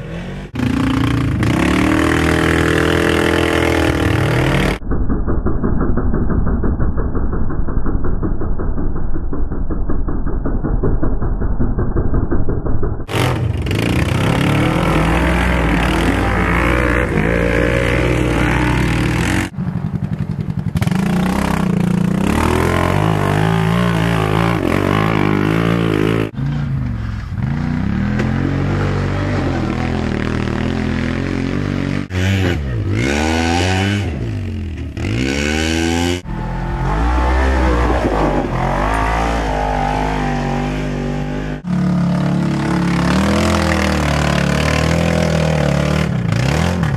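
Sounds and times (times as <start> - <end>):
utility vehicle engines revving: 0.0 - 4.8, 13.0 - 46.9.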